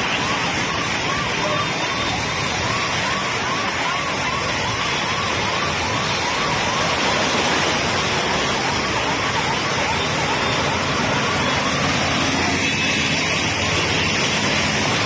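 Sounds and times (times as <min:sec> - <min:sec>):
electronic siren yelping: 0:00.0 - 0:15.0
rain and floodwater rushing: 0:00.0 - 0:15.0.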